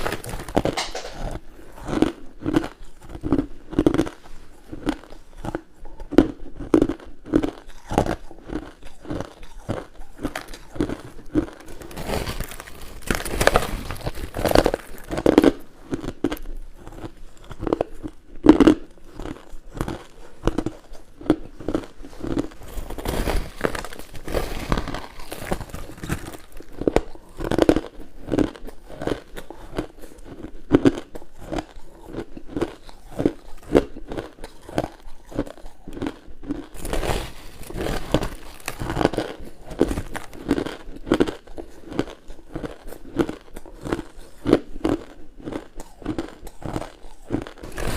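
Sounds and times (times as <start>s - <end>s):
chewing crunchy ice: 0.0s - 47.9s.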